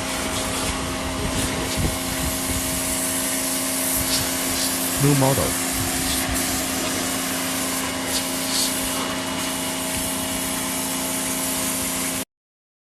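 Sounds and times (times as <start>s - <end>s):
pressure washer motor whining: 0.0s - 12.2s
water spray hiss: 0.0s - 12.2s.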